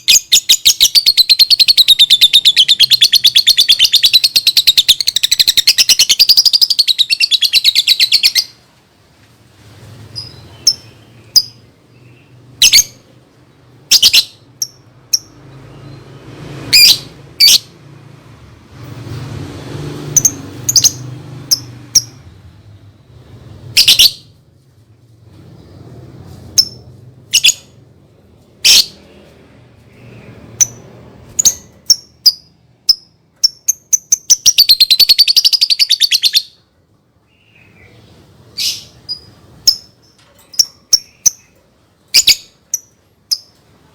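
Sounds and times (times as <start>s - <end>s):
lovebird chirping: 0.0s - 8.6s, 9.9s - 17.8s, 20.0s - 24.4s, 26.5s - 27.8s, 28.6s - 29.0s, 29.9s - 36.7s, 37.3s - 43.7s.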